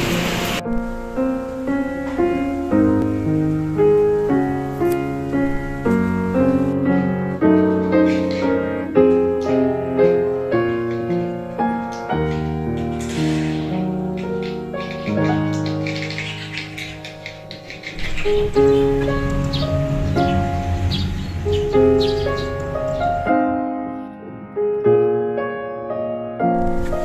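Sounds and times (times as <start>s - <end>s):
gentle piano music: 0.0s - 27.0s.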